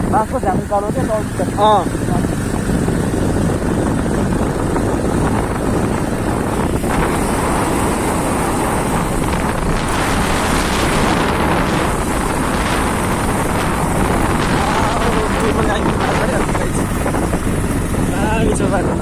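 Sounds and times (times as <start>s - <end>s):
motorbike running: 0.0s - 19.0s
wind buffeting microphone: 0.0s - 19.0s.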